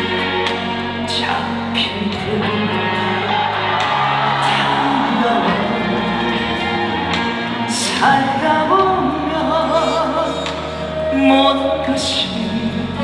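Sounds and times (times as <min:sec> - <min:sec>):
live band playing trot song: 0:00.0 - 0:13.0
steady bass: 0:00.0 - 0:13.0
vibrato lead melody: 0:00.0 - 0:13.0.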